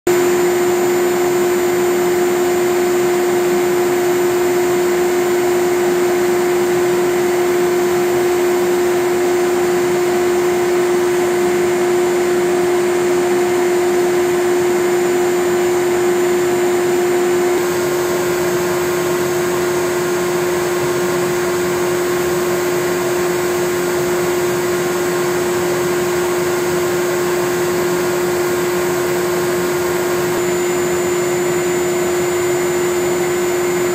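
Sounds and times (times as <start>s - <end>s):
machine whir with hum-tone: 0.1s - 33.9s.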